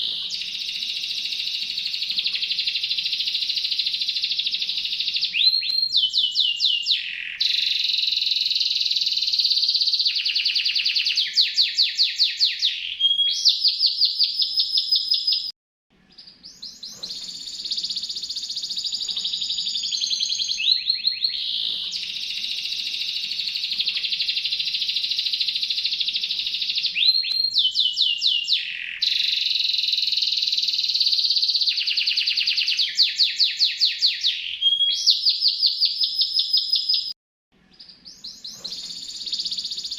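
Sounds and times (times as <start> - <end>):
canary singing trills: 0.0 - 37.1, 37.7 - 39.9.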